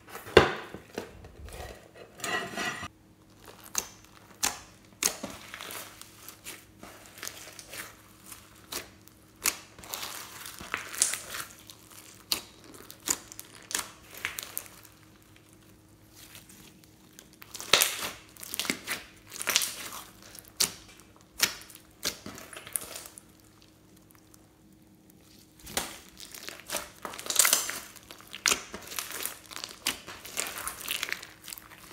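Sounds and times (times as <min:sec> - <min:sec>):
slime squishing and popping: 0:03.4 - 0:15.1, 0:17.1 - 0:24.4, 0:25.2 - 0:31.9.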